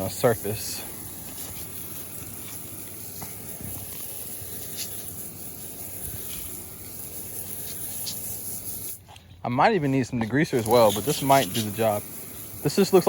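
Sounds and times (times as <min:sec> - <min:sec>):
spraying machine hiss: 0:00.0 - 0:13.0.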